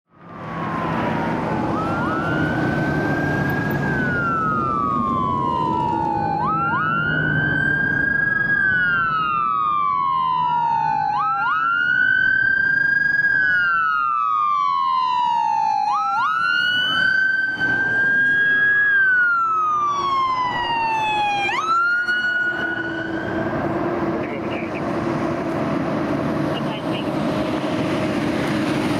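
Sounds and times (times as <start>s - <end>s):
engine rumble: 0.1s - 28.9s
electronic wail sirens: 0.2s - 25.6s, 26.4s - 28.9s.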